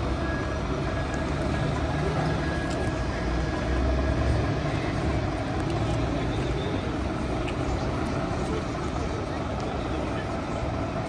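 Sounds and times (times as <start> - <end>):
city traffic rumble: 0.0 - 11.0
faint voices: 0.0 - 11.0.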